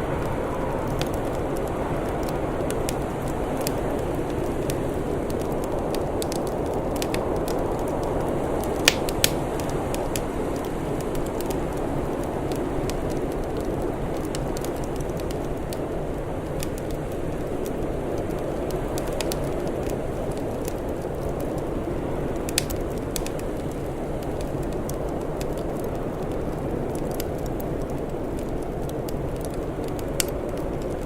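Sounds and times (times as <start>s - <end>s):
fire popping and snapping: 0.0s - 31.0s.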